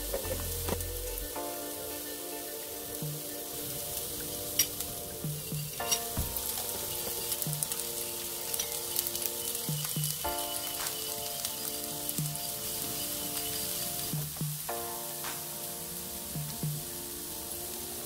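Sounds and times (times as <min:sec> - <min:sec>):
background music of held chords: 0:00.0 - 0:18.0
cooking oil sizzling in a pan: 0:00.0 - 0:18.0.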